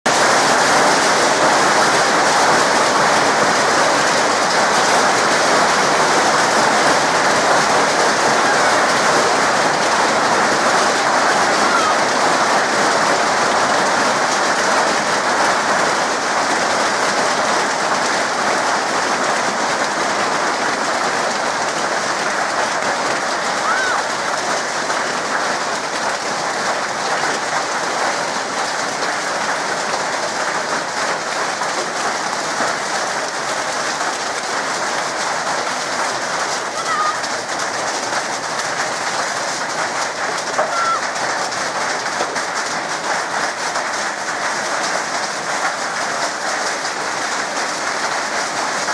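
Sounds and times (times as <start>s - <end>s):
hailstones pelting down: 0.1s - 48.9s.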